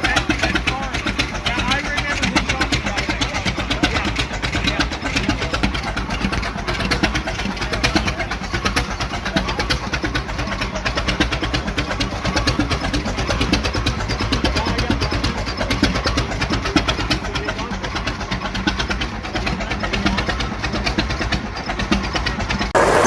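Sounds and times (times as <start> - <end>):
engine running with exhaust pulses: 0.0 - 23.0.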